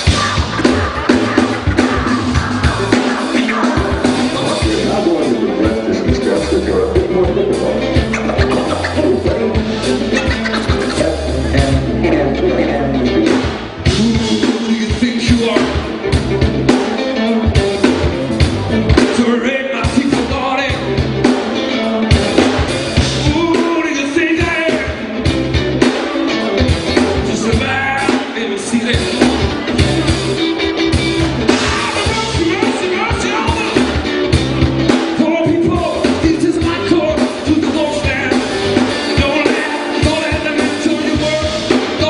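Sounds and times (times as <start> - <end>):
live blues-rock band: 0.0 - 42.0.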